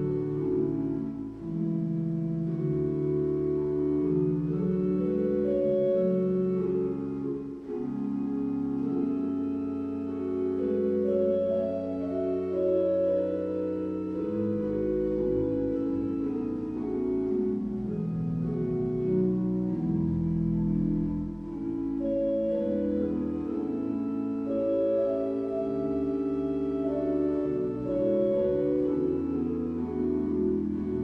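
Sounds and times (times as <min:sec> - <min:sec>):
organ chords: 0:00.0 - 0:31.0.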